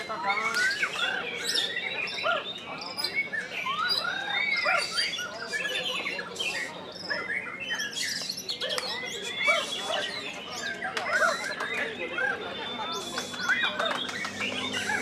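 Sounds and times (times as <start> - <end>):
songbirds singing and chirping: 0.0 - 15.0.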